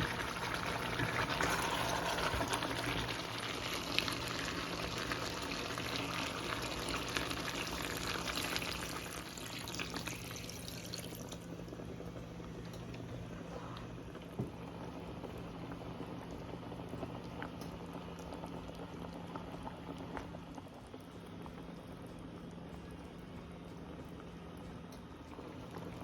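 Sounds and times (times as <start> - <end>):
curry bubbling in a pot: 0.0 - 26.0.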